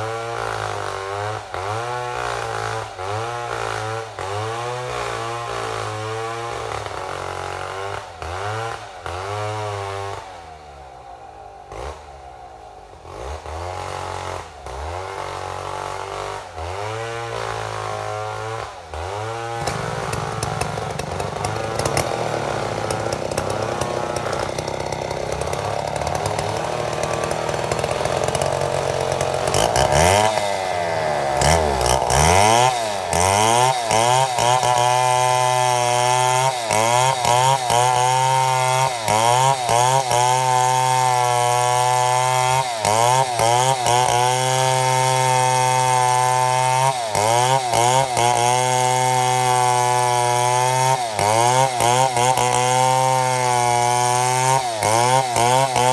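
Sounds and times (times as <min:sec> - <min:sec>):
chainsaw cutting log: 0:00.0 - 0:55.9.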